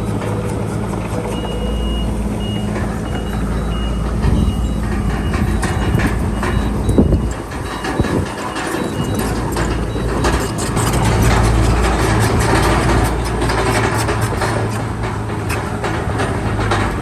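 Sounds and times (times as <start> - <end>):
reverse warning alarm beeping: 0.0 - 13.8
diesel engine low rumble: 0.0 - 17.0
metal clanks and knocks: 0.0 - 17.0.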